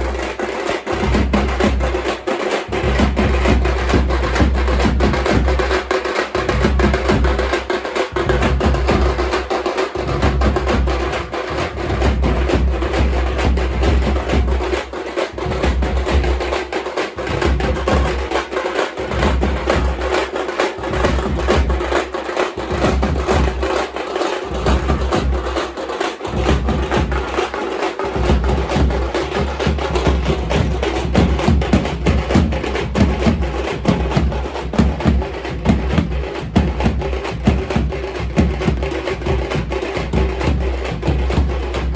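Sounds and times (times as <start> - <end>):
drums playing fast rhythm: 0.0 - 41.9.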